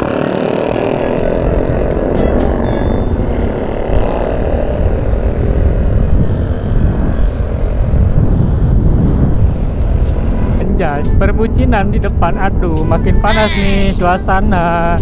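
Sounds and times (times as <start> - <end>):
motorcycles passing alongside: 0.0 - 15.0
scooter engine drone: 0.0 - 15.0
wind rumble on microphone: 0.0 - 15.0.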